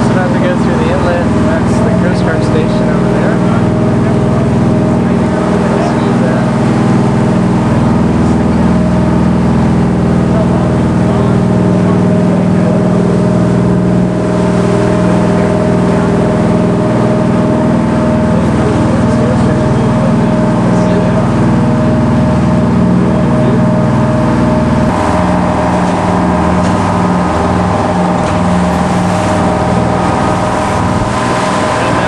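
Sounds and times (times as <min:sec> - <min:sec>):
boat engine drone: 0:00.0 - 0:32.0.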